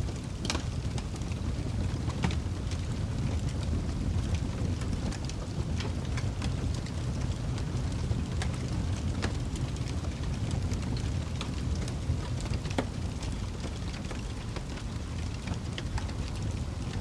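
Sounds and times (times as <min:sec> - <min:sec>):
fire crackling and popping: 0:00.0 - 0:17.0
wood fire rumble: 0:00.0 - 0:17.0.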